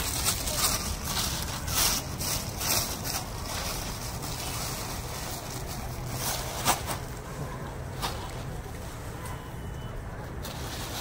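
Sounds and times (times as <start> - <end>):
plastic bag rustling: 0.0 - 9.2, 10.3 - 11.0.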